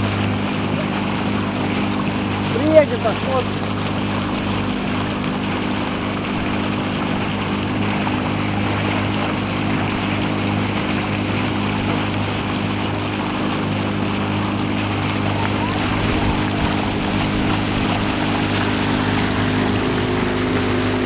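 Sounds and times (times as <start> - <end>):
motorboat engine running: 0.0 - 21.0.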